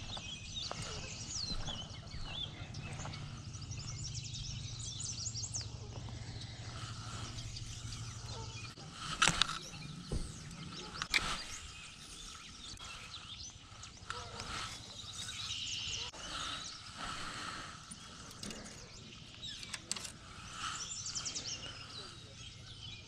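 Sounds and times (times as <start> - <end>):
birds chirping and singing: 0.0 - 23.0.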